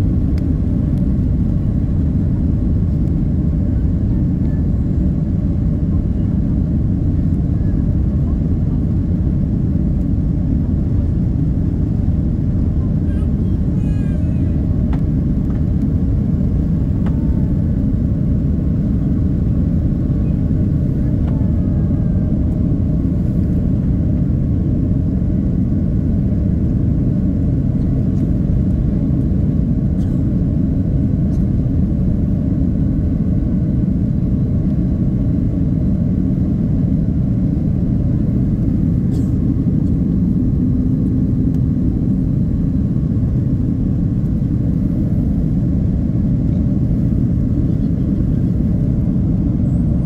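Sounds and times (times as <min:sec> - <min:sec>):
airliner cabin engine rumble: 0:00.0 - 0:50.0.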